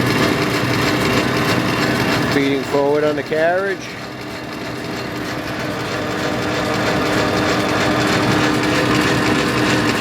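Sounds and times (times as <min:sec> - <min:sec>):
lathe whirring: 0:00.0 - 0:10.0
motor hum: 0:00.0 - 0:10.0.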